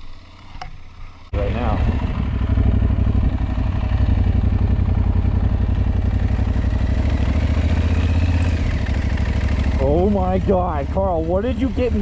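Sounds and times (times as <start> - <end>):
motorcycle engine running: 1.3 - 12.0.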